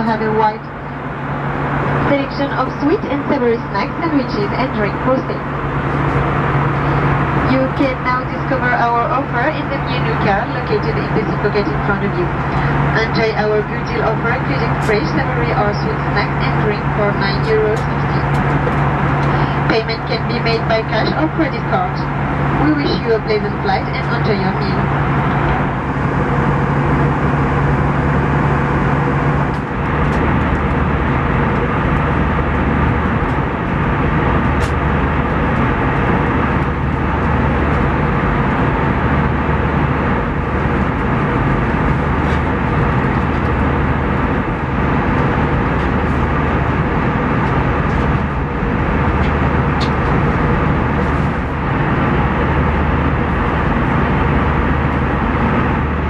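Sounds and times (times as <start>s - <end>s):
airplane cabin noise: 0.0s - 56.0s
low hum: 0.0s - 56.0s.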